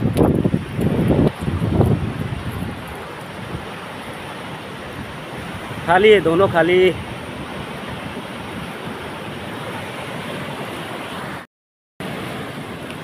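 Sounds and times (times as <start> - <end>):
river rushing over stones: 0.0 - 11.4, 12.0 - 13.0.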